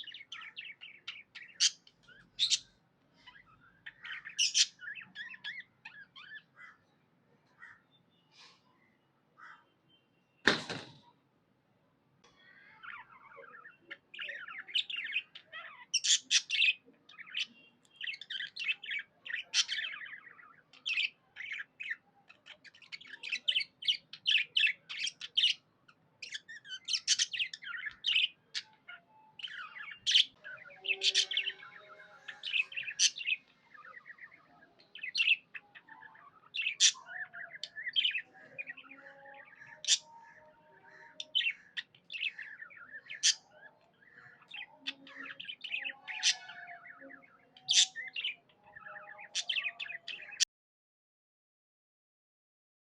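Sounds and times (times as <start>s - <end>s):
budgerigars chirping and warbling: 0.0s - 8.6s, 12.4s - 50.5s.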